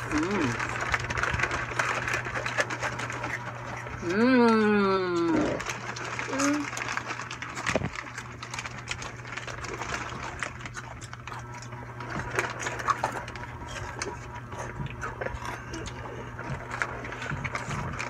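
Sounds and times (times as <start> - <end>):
crunching chips: 0.0 - 18.0
plastic wrappers crinkling: 0.0 - 18.0
steady low hum: 0.0 - 18.0.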